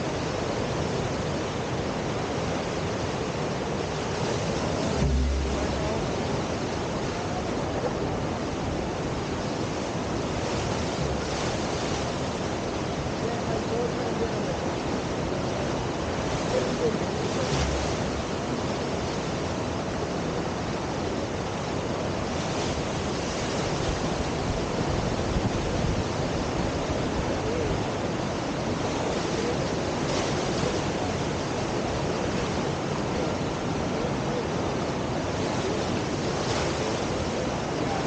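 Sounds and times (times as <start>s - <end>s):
whitewater rushing: 0.0s - 38.0s.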